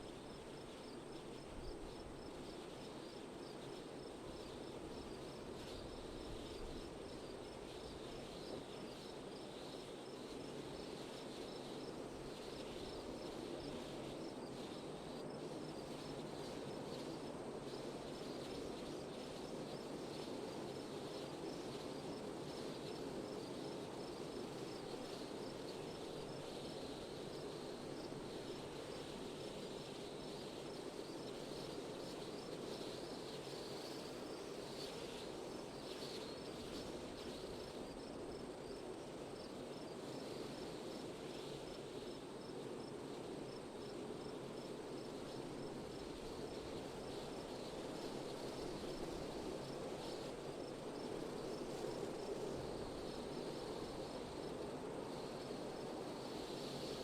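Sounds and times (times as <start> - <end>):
crickets chirping: 0.0 - 57.0
wind: 0.0 - 57.0.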